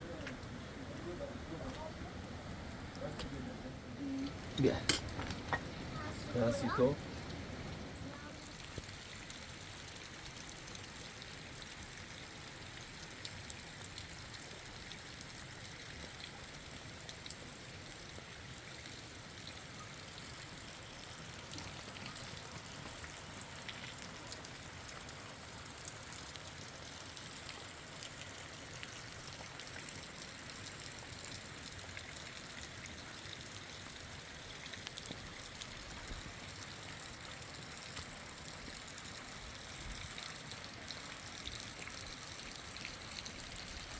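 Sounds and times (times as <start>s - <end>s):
steady rain falling: 0.0s - 43.9s
small water drips: 4.0s - 43.9s.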